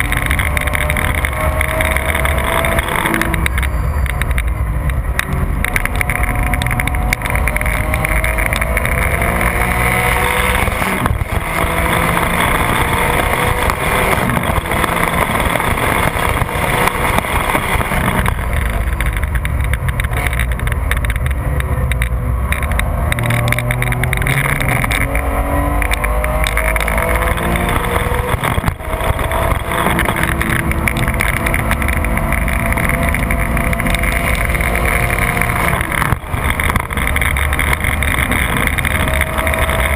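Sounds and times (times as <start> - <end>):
car engine at full throttle: 0.0 - 39.9
tyre noise: 0.0 - 39.9
wind noise: 0.0 - 39.9.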